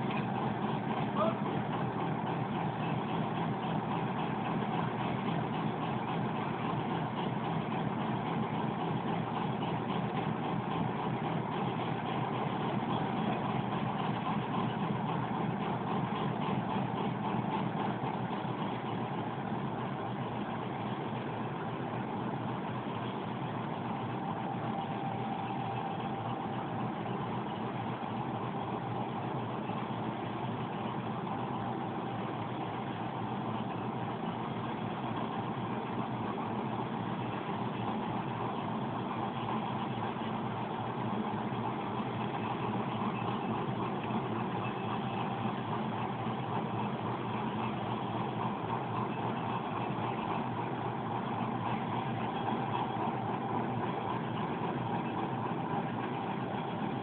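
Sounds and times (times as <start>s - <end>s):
diesel locomotive engine idling: 0.0s - 57.0s.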